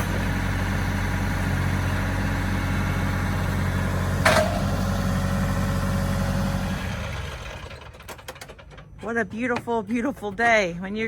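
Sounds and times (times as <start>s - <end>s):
engine idling: 0.0s - 9.0s.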